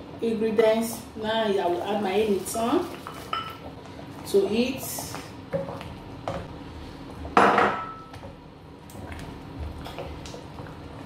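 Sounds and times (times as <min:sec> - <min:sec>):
wooden spoon stirring soup: 0:00.9 - 0:07.4, 0:08.1 - 0:11.0.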